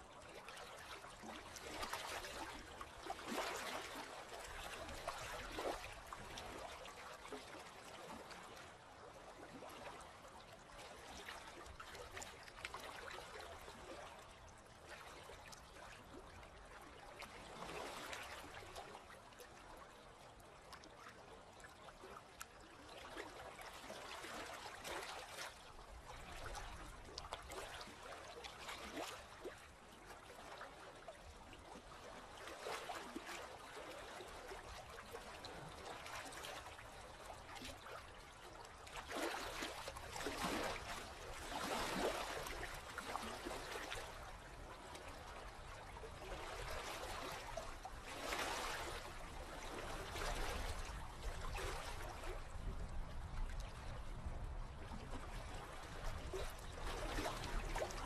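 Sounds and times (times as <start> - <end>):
small water splashes and drips: 0.0 - 58.0
sea water lapping: 0.1 - 58.0.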